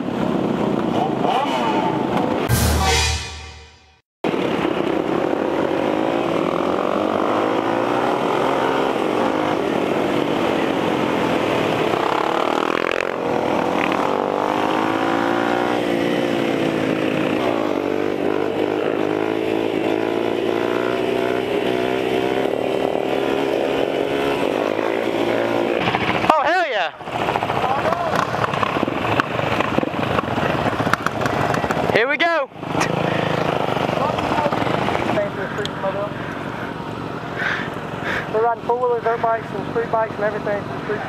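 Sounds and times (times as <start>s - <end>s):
motorcycle engines revving: 0.0s - 2.6s, 4.3s - 41.0s.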